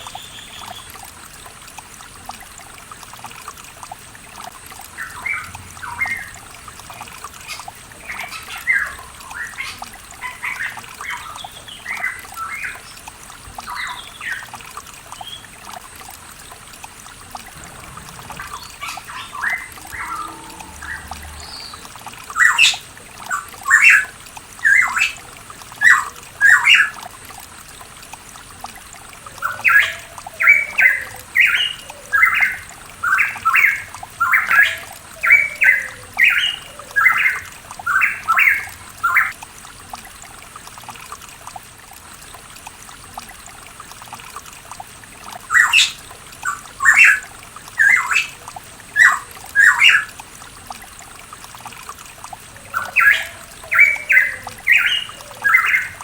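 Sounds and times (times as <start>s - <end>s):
trickle of running water: 0.0s - 56.0s.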